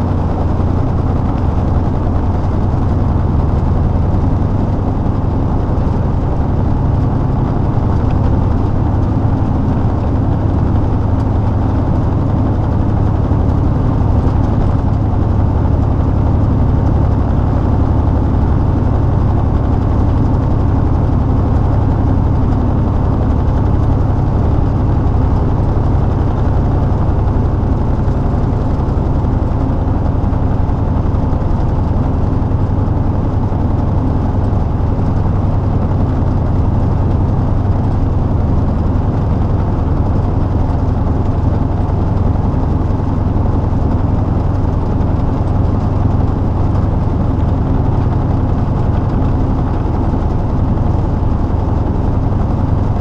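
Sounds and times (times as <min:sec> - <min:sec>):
road noise: 0:00.0 - 0:53.0
truck diesel engine drone: 0:00.0 - 0:53.0.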